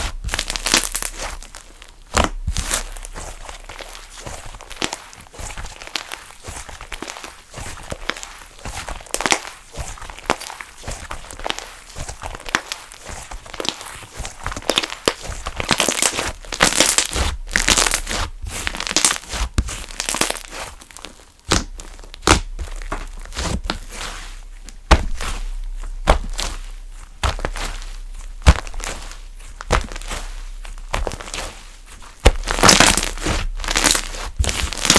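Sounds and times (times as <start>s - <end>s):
slime squished by hand crackling: 0.0s - 34.9s.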